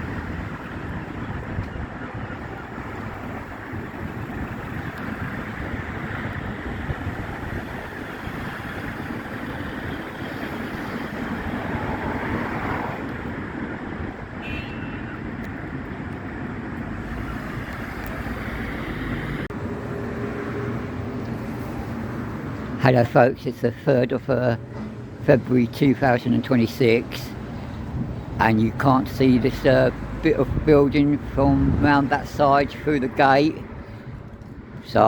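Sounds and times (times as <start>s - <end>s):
wind buffeting microphone: 0.0s - 19.6s, 24.7s - 35.0s.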